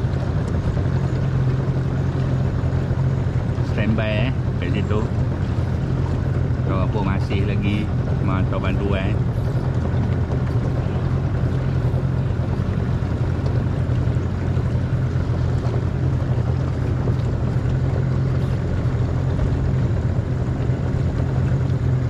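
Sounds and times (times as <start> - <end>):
motorboat engine droning: 0.0 - 22.0.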